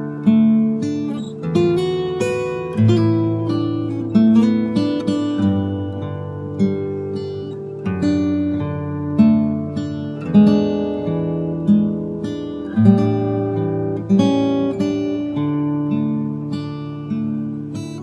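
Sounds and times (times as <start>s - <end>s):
solo acoustic guitar music: 0.0s - 18.0s.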